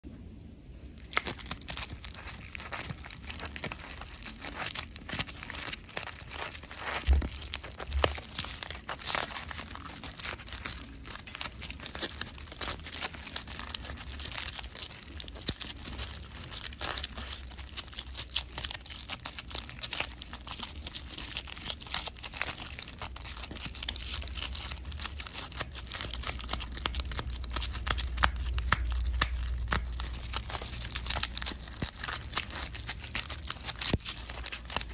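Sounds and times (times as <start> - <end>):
dry seeds crackling and rustling: 0.8 - 34.9.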